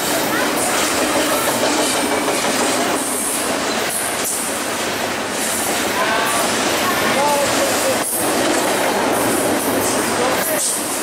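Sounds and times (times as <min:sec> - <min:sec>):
steel wheels on rail: 0:00.0 - 0:11.0.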